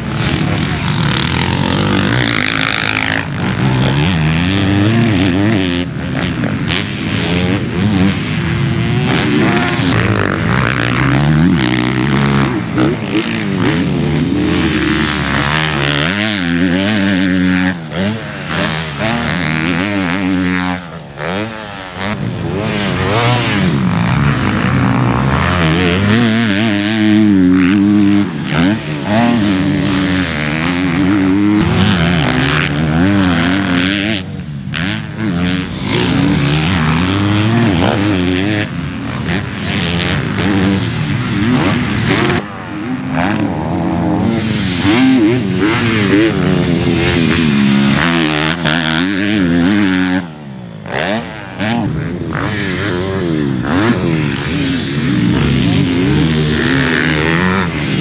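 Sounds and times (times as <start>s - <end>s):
motocross engines revving: 0.0s - 58.0s.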